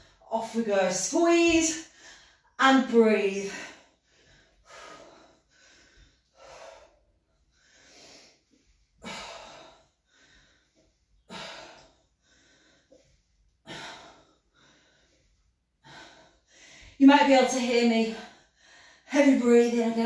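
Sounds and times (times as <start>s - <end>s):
woman breathing heavily: 1.4s - 2.6s, 3.3s - 17.4s, 18.0s - 19.4s.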